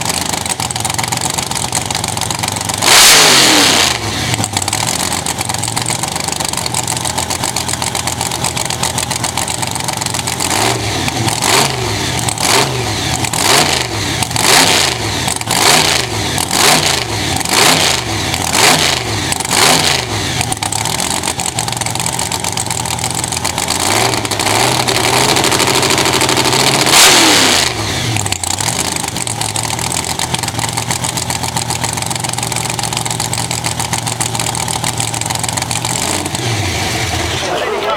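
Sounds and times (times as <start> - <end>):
drag car engine revving: 0.0 - 37.9.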